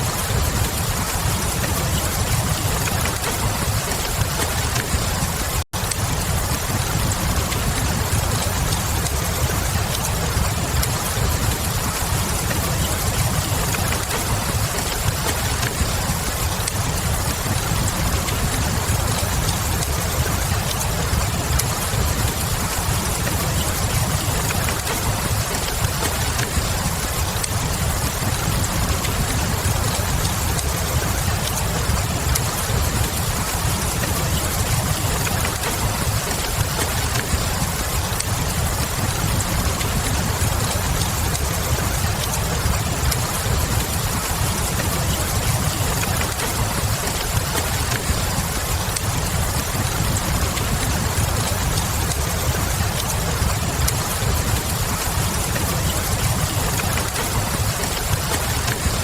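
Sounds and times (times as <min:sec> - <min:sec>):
rain hiss: 0:00.0 - 0:59.0
wood fire crackling: 0:00.0 - 0:59.0.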